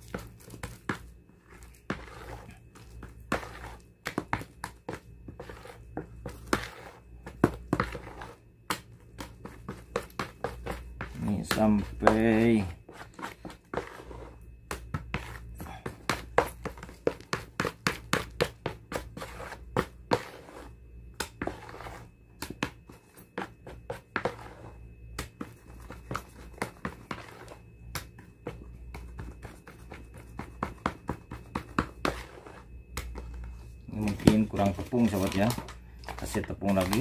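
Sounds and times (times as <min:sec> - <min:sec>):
spatula scraping plastic basin: 0:00.0 - 0:08.4, 0:09.2 - 0:22.1, 0:23.0 - 0:24.8, 0:25.5 - 0:27.6, 0:28.5 - 0:37.0
spatula stirring thick dough: 0:00.0 - 0:37.0.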